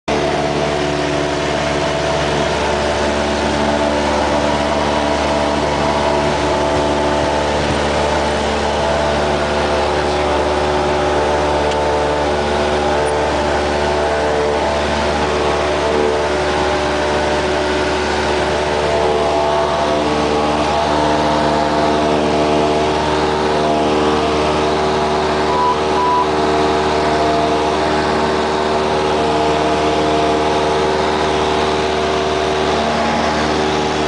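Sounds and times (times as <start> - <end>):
propeller plane engine at full power: 0.0 - 34.0.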